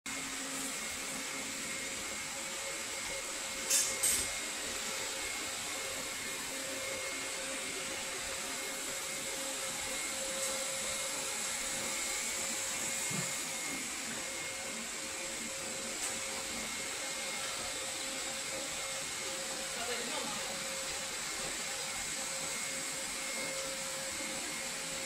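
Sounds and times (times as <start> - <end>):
robot vacuum whirring: 0.7 - 25.0.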